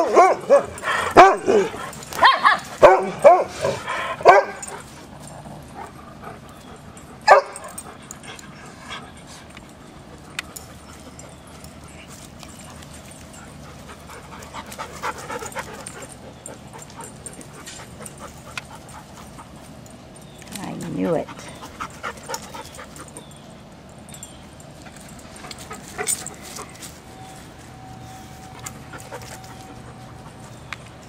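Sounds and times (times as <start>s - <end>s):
dogs barking and yipping: 0.0s - 31.0s.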